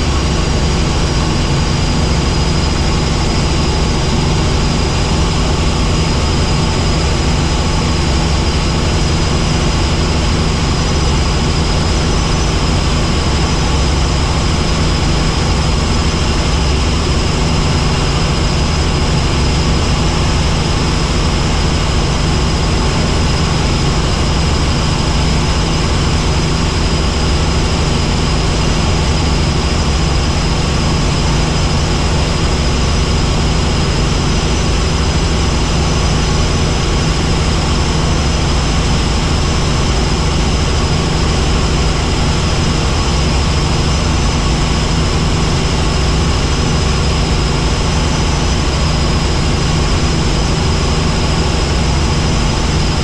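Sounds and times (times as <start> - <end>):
helicopter rotor and engine drone: 0.0 - 53.0
high whine: 0.0 - 53.0.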